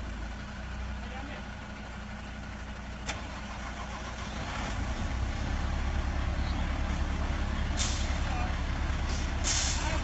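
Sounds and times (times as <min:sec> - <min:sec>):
heavy engine rumbling: 0:00.0 - 0:10.0.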